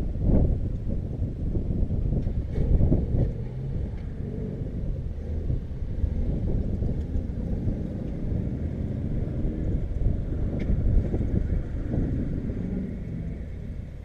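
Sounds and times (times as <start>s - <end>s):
car engine rumble: 0.0s - 14.0s.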